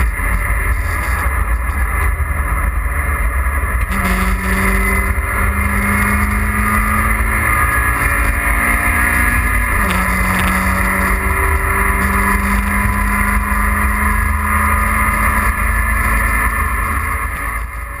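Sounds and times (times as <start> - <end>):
car engine running hard: 0.0 - 18.0
road and wind rumble: 0.0 - 18.0.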